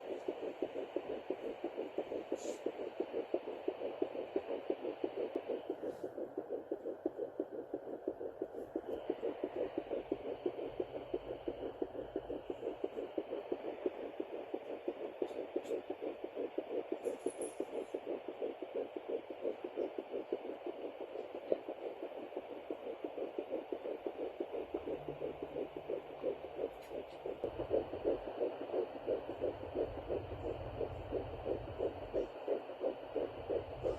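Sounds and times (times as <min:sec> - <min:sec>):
rapid whooshing heartbeat pulse: 0:00.0 - 0:33.9
static hiss from speaker: 0:00.0 - 0:33.9.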